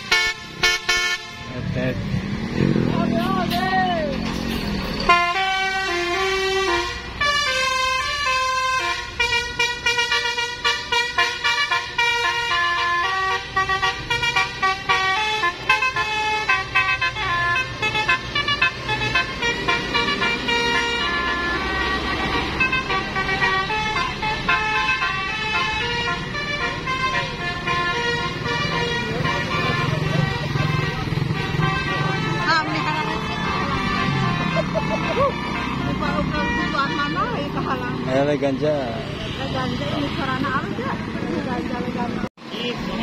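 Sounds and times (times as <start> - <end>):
musical bus horn melody: 0.0 - 1.8, 5.0 - 37.9
bus engine running: 0.0 - 43.0.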